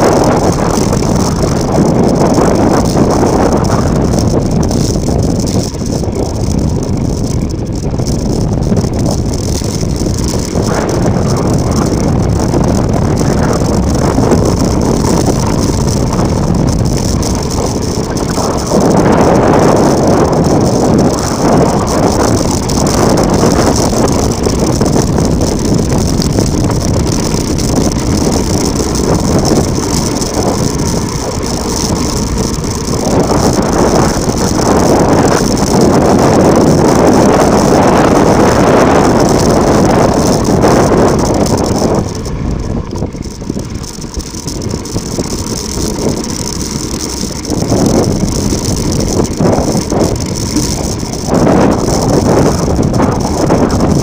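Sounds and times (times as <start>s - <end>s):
bike rattling: 0.0s - 54.0s
bike tyre noise on loose ground: 0.0s - 54.0s
wind on microphone: 0.0s - 54.0s.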